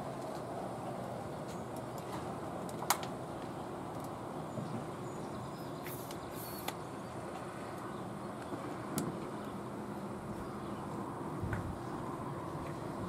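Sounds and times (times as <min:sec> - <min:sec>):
low rushing background noise: 0:00.0 - 0:13.0.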